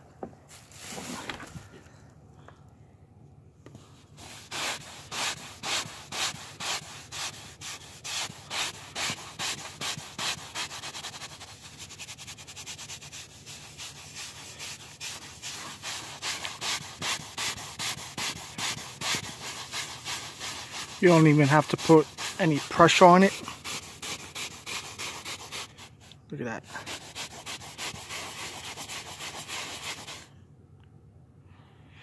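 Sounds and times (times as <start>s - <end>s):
brush scrubbing car seat: 3.9s - 26.0s, 26.6s - 30.3s.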